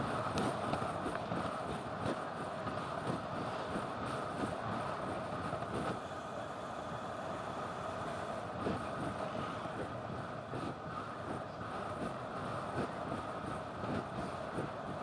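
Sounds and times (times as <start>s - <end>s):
wind on microphone: 0.0s - 6.0s, 7.9s - 15.0s
bike tyres rolling on asphalt: 0.0s - 15.0s.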